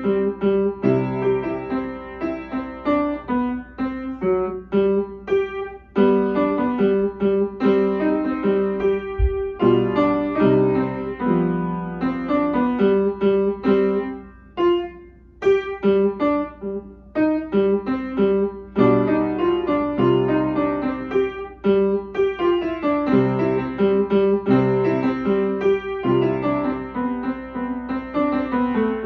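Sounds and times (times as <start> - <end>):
upright piano solo: 0.0 - 29.0.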